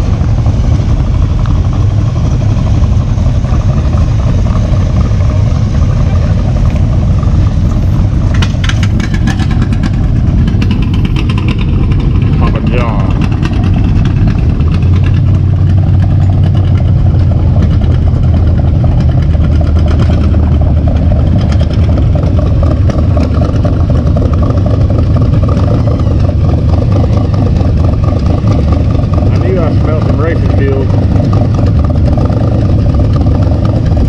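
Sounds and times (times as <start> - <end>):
vehicle engine low rumble: 0.0 - 34.0.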